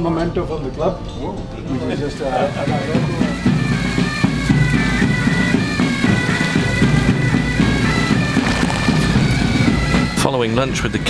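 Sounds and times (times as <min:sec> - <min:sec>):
low musical accompaniment: 0:00.0 - 0:11.0.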